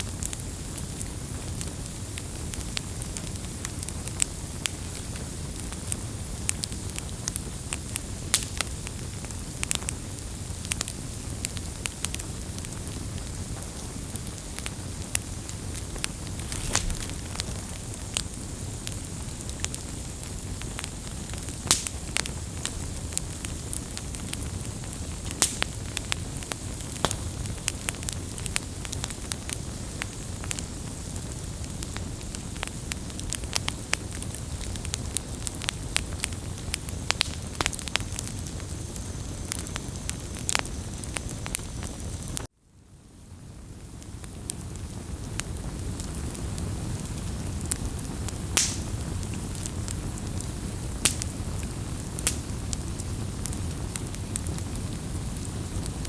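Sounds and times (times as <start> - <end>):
campfire crackling and popping: 0.0 - 42.5, 43.5 - 56.0.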